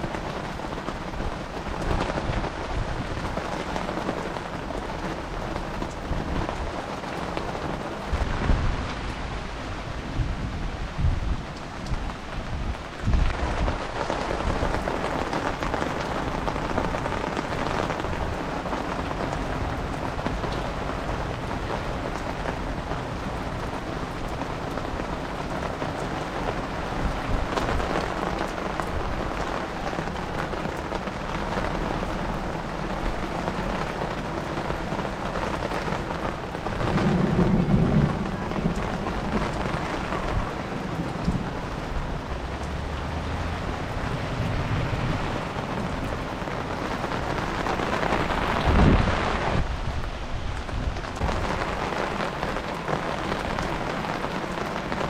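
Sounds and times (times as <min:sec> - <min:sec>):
heavy rain on hard surfaces: 0:00.0 - 0:55.0.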